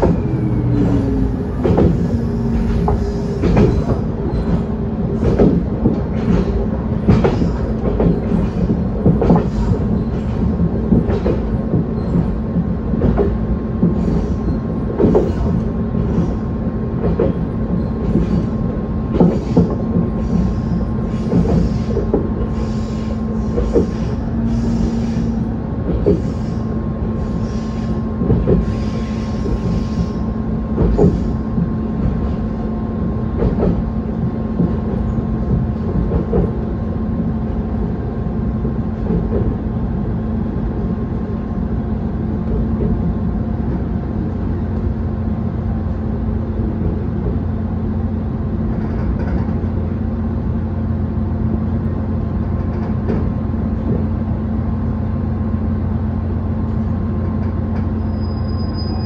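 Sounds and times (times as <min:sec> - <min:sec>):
railcar engine drone: 0:00.0 - 0:59.0.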